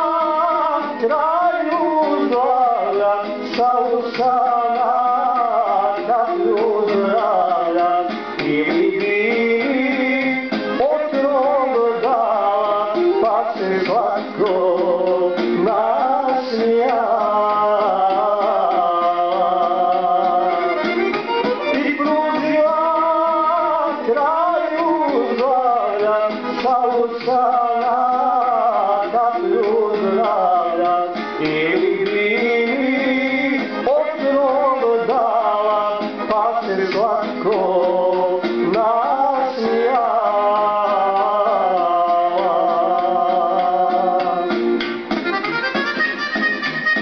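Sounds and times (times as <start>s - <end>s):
man singing ornamented melody: 0.0s - 44.6s
accordion: 0.0s - 47.0s.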